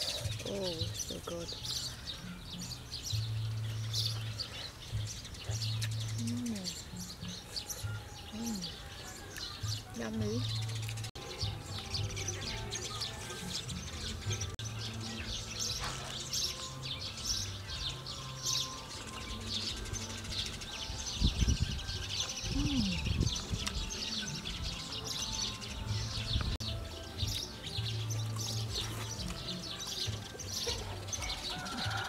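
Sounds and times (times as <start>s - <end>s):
background music with low notes: 0.0s - 32.0s
small birds chirping: 0.0s - 32.0s.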